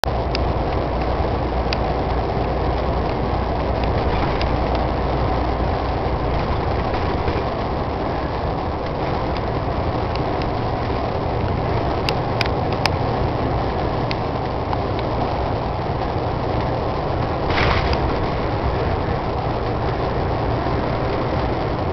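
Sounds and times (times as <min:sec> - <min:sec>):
vehicle engine and tyre noise: 0:00.0 - 0:21.9.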